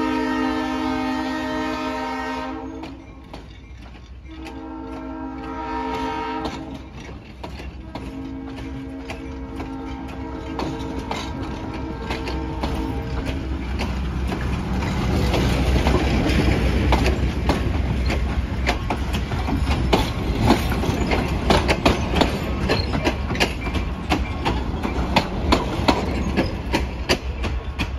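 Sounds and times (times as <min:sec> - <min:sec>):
train wheels rumbling on rail: 0:00.0 - 0:27.9
wheels clicking over rail joints: 0:00.2 - 0:27.9.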